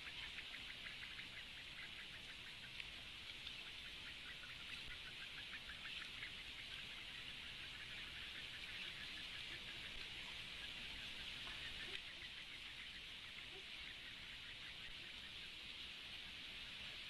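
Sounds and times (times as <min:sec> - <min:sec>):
rapid ticking bird calls: 0:00.0 - 0:15.8
steady hiss: 0:00.0 - 0:17.0.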